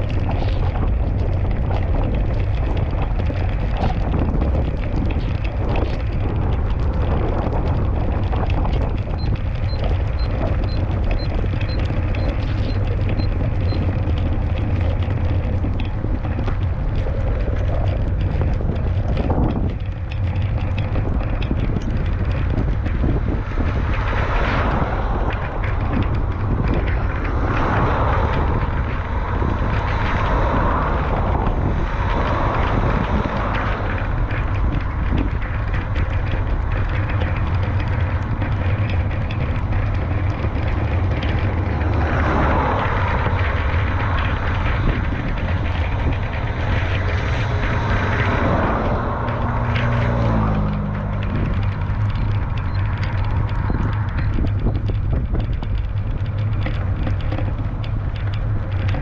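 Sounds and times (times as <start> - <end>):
raindrop ticks: 0.0 - 59.0
wind buffeting microphone: 0.0 - 59.0.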